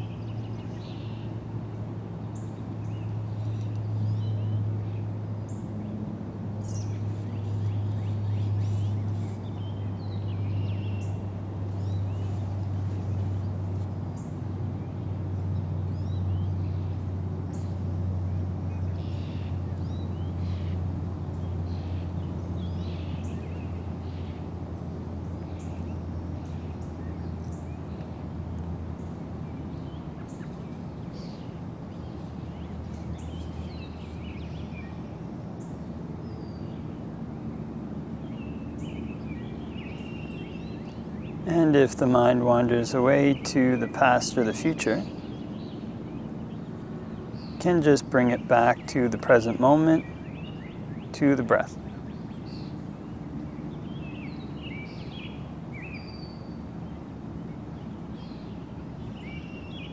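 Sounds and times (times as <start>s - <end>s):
small birds chirping: 0.0s - 6.0s, 6.6s - 59.9s
steady low hum: 0.0s - 59.9s.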